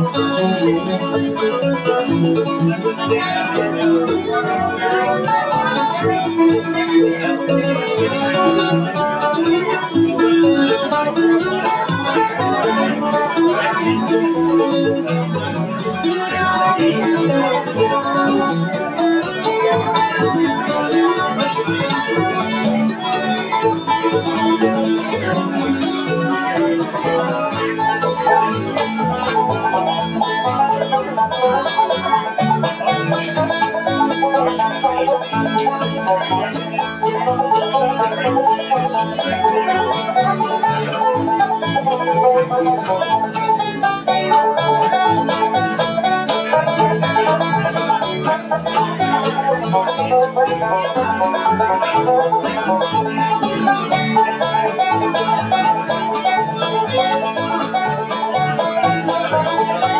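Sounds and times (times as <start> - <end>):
bluegrass band playing: 0.0 - 59.9.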